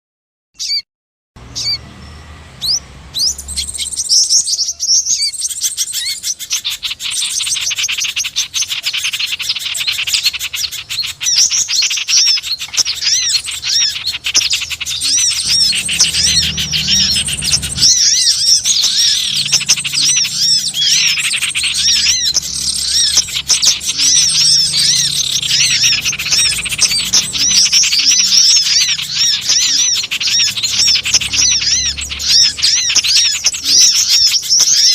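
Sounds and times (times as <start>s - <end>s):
small birds chirping: 0.6s - 0.8s, 1.4s - 34.9s.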